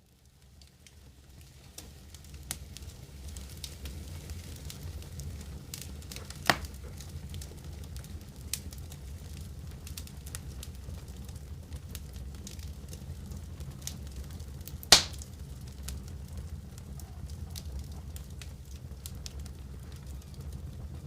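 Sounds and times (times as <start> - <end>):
wood fire crackling: 0.0 - 21.0
fire popping: 0.4 - 21.0.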